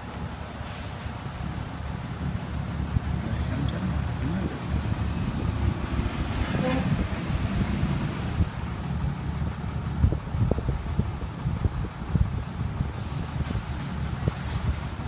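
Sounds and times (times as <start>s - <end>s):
truck engine low rumble: 0.0s - 15.0s.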